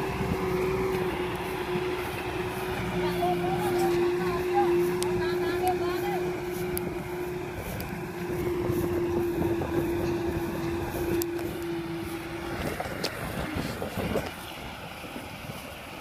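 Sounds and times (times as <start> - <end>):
steady engine tone: 0.0 - 16.0
tractor diesel engine under load: 0.0 - 16.0.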